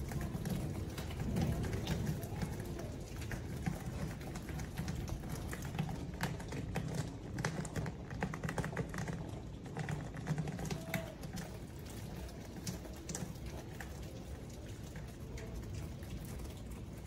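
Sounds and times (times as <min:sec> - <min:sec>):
heavy rain: 0:00.0 - 0:17.0
water dripping on metal cups: 0:00.0 - 0:17.0
water rushing down rain chain: 0:00.0 - 0:17.0.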